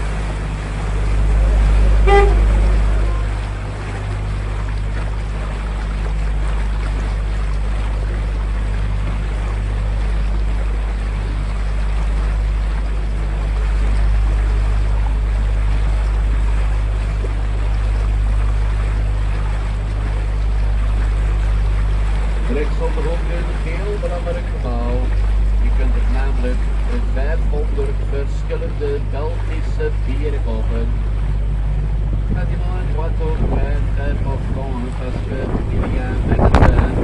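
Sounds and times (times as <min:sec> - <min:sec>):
boat motor drone: 0:00.0 - 0:37.0
wake water churning: 0:00.0 - 0:37.0.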